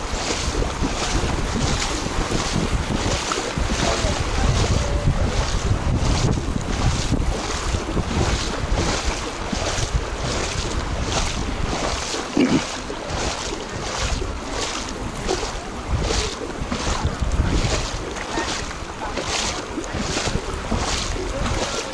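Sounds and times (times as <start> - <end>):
footsteps wading through water: 0.0 - 21.9
wind rumbling on microphone: 0.0 - 21.9.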